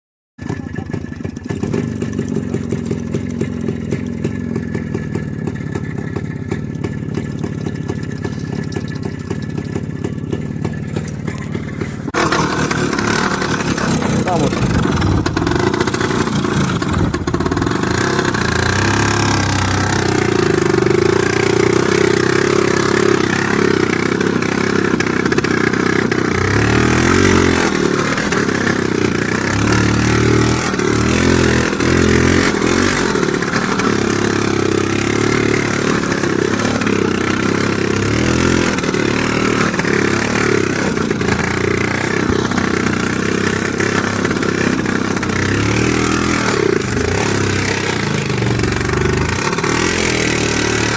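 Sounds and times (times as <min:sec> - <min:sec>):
motorcycle engine revving: 0:00.4 - 0:50.9.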